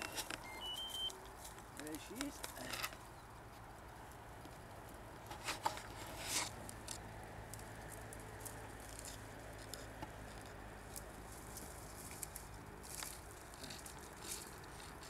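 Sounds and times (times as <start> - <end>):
dry brambles and leaves crackling: 0.0 - 15.0.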